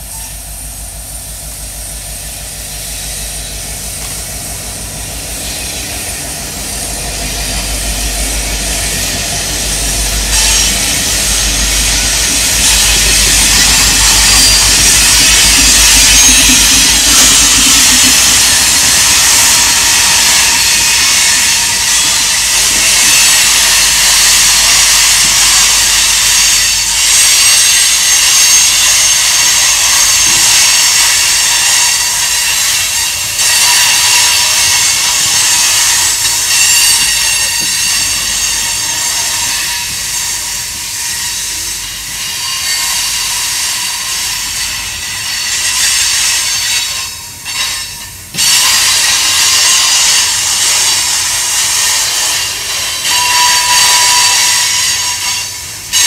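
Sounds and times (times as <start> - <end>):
steel wheels rushing on rail: 0.0 - 56.0
wheel flange squeal: 5.2 - 56.0.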